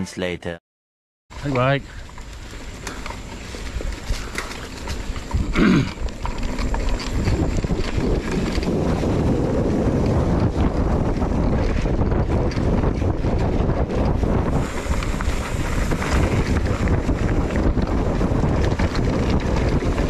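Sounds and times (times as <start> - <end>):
mountain bike rattling on dirt: 1.3 - 20.0
wind buffeting microphone: 1.5 - 20.0.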